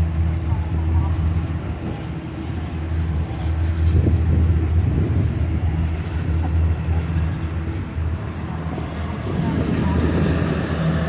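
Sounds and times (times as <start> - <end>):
motorboat engine humming: 0.0 - 11.0
rushing wind and water: 0.0 - 11.0.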